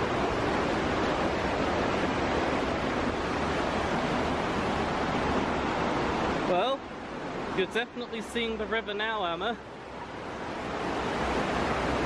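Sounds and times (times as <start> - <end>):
river rushing over rapids: 0.0 - 12.0.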